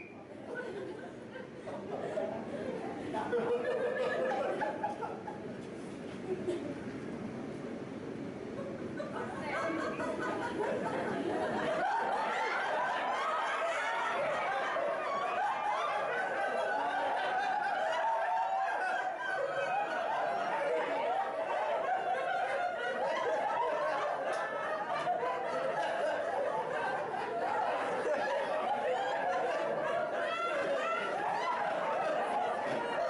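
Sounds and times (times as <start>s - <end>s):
crowd laughing: 0.0s - 6.9s, 8.5s - 33.0s.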